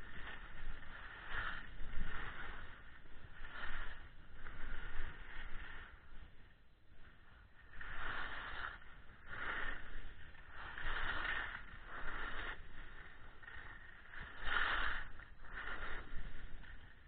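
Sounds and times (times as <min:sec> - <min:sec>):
skis swishing over packed snow: 0:00.0 - 0:17.0.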